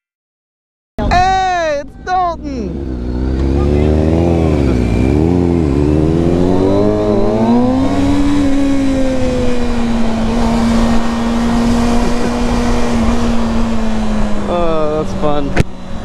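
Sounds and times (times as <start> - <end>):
motorcycle engine accelerating: 2.3 - 16.0.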